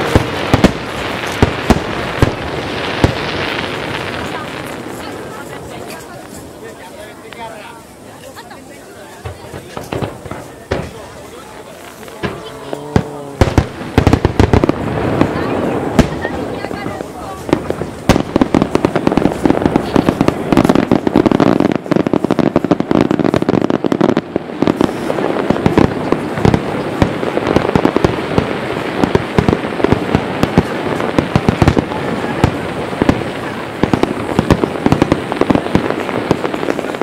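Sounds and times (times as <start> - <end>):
fireworks booming and crackling: 0.0 - 37.0.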